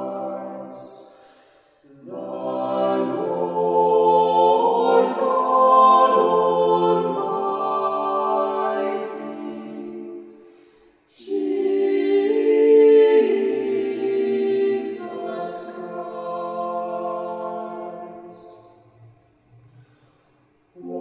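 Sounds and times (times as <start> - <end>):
a cappella choir singing carol: 0.0 - 21.0.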